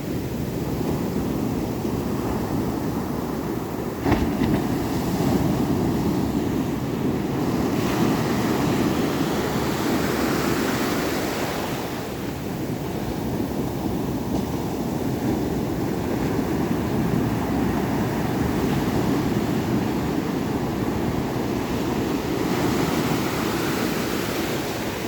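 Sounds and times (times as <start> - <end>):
wind buffeting microphone: 0.0 - 25.0
waves breaking: 0.9 - 25.0.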